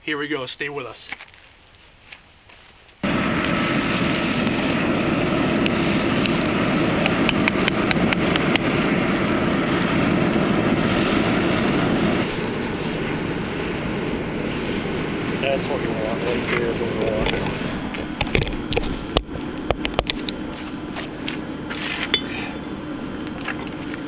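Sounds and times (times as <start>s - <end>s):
fire crackles and pops: 0.9s - 24.0s
forge fire rushing: 3.0s - 24.0s.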